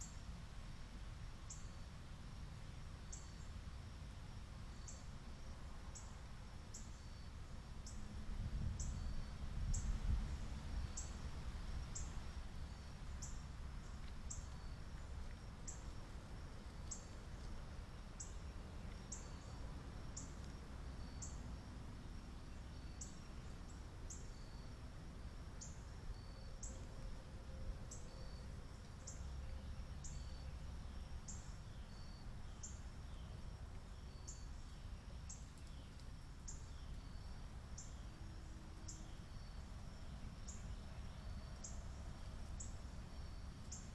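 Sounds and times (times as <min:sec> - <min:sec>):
low steady rumble: 0:00.0 - 0:43.9.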